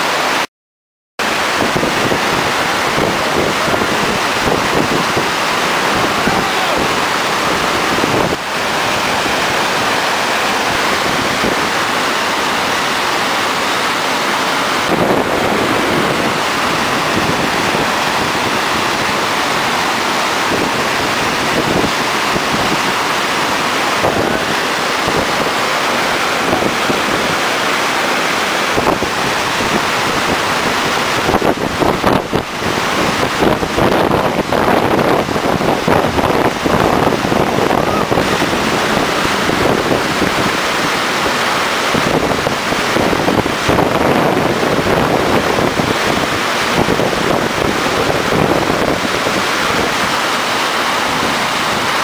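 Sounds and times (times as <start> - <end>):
water rushing over a weir: 0.0 - 0.5, 1.2 - 52.0.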